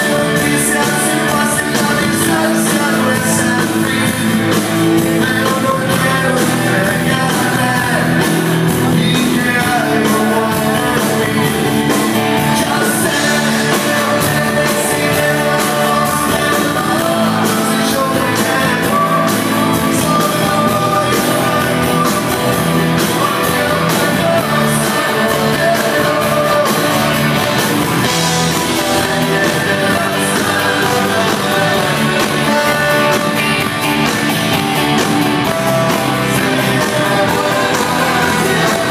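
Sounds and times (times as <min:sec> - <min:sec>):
drums: 0:00.0 - 0:38.9
electric guitars: 0:00.0 - 0:38.9
keyboard: 0:00.0 - 0:38.9.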